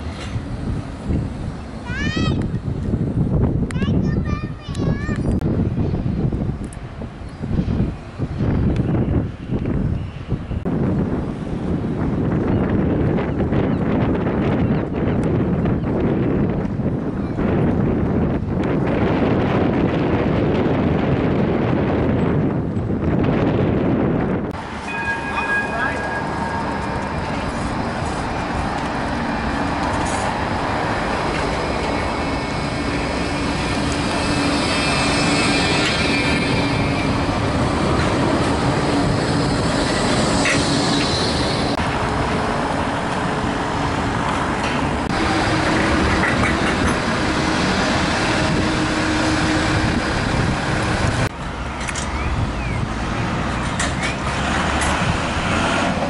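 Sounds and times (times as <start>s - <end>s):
traffic noise: 0.0s - 23.8s, 24.4s - 56.0s
tram passing with electric hum: 0.0s - 56.0s.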